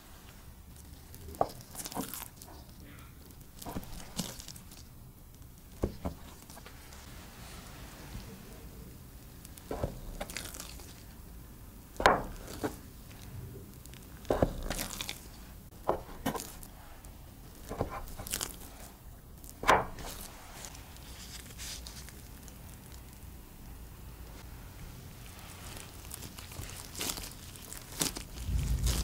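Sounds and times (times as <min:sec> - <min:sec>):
dough handling: 0:00.0 - 0:23.3, 0:25.1 - 0:29.0.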